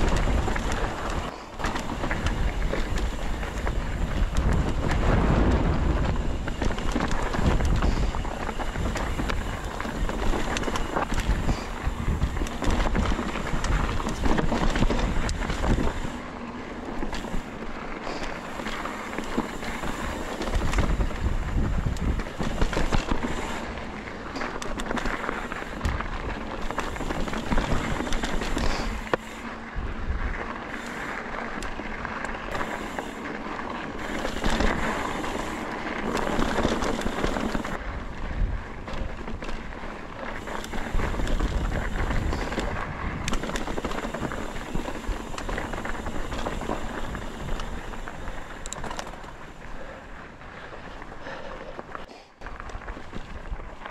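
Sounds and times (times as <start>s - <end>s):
wind rumbling on microphone: 0.0s - 51.8s
bike rattling: 0.0s - 53.9s
tyres crunching on gravel: 0.0s - 53.9s.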